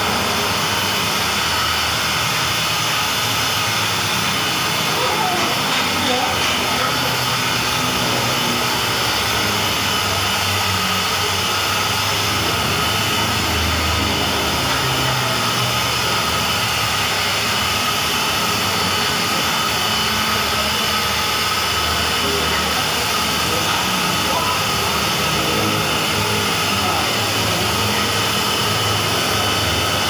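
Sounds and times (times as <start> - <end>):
electric car polisher whining: 0.0 - 30.0.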